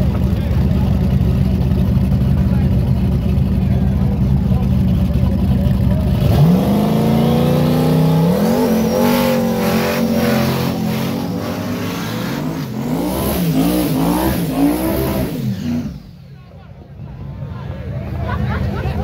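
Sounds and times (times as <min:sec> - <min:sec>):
car engine accelerating: 0:00.0 - 0:16.4.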